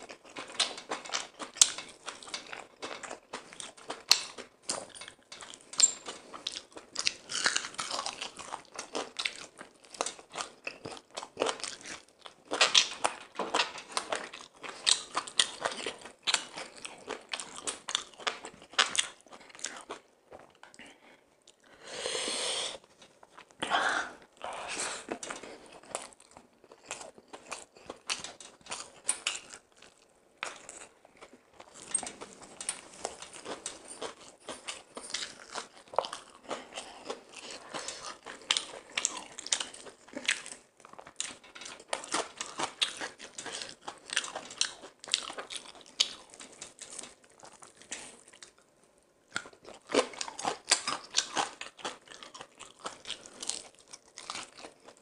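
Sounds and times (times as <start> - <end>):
chewing and crunching food: 0.0 - 21.8, 22.8 - 55.0.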